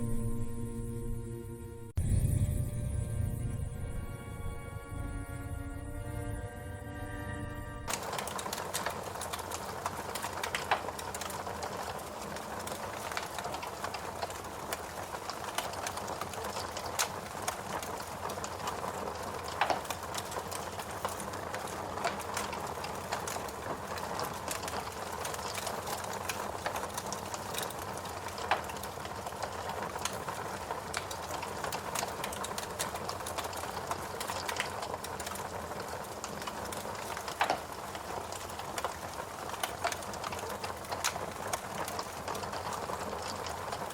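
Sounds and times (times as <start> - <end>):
fireplace crackling: 3.2 - 43.9
sharp fire pops: 7.9 - 43.9.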